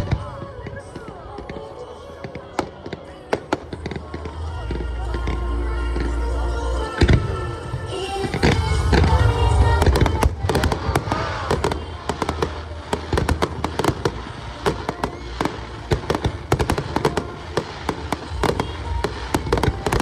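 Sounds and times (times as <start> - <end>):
fireworks bangs and crackling: 0.0 - 6.4, 7.0 - 20.0.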